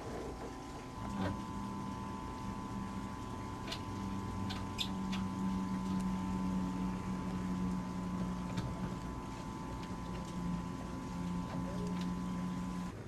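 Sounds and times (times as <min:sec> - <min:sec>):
machinery hum with high whine: 0:00.0 - 0:13.0.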